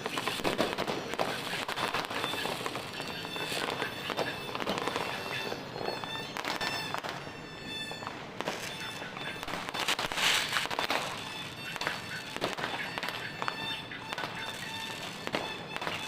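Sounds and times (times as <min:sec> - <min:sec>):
fireworks and firecrackers bangs: 0:00.0 - 0:16.0.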